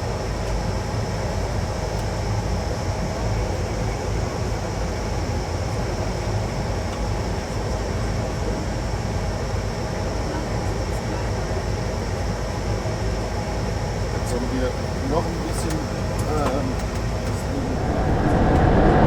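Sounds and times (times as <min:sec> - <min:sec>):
airflow and engine noise in aircraft: 0:00.0 - 0:19.0.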